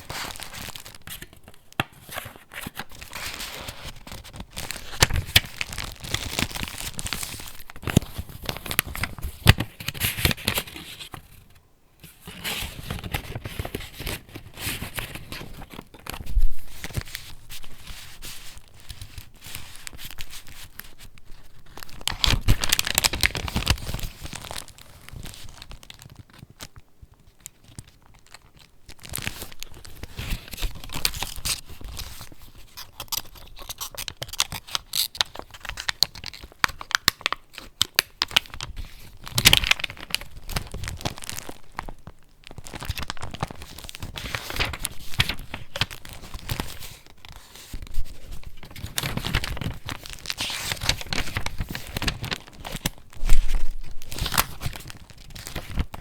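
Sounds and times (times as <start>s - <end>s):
paper pages rustling: 0.0s - 26.8s, 27.4s - 56.0s.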